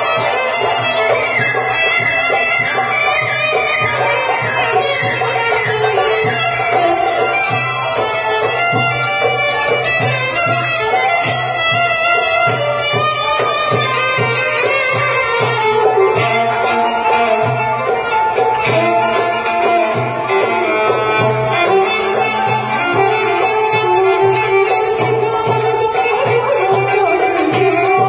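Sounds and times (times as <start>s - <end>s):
steady drum beat: 0.0s - 28.0s.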